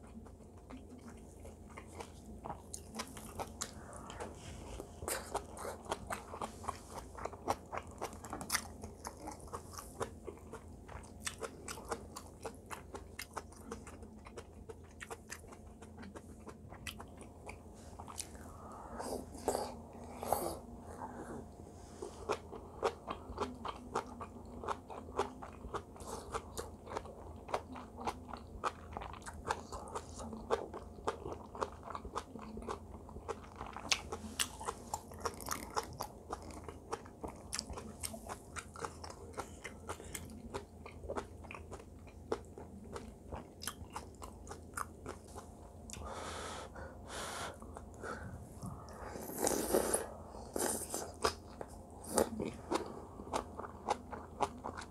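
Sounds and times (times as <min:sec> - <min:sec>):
crunchy chewing: 0:00.0 - 0:20.6, 0:22.0 - 0:46.2, 0:47.5 - 0:54.9.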